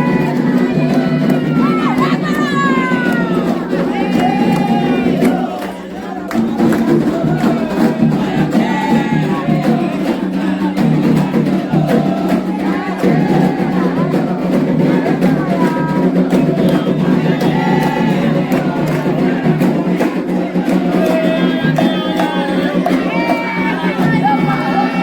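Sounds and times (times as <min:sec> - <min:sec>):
group singing a chant: 0:00.0 - 0:25.0
hand drums: 0:00.0 - 0:25.0.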